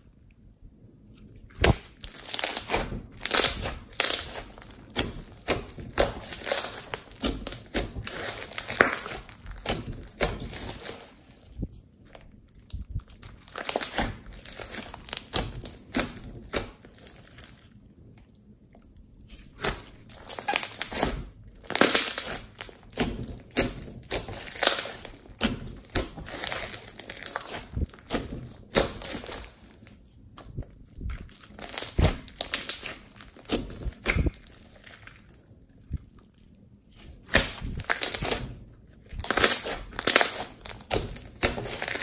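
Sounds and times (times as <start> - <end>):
hands squishing slime: 1.1 - 42.0.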